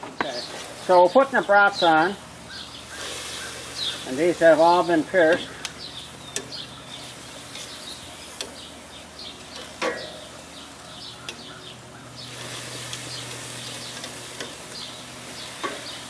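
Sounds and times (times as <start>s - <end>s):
birds chirping: 0.0s - 16.0s
sausages sizzling on grill: 0.0s - 16.0s.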